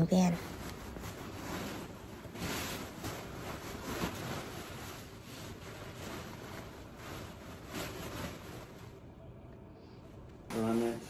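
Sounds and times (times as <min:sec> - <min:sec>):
wedding dress fabric rustling: 0:00.0 - 0:09.2.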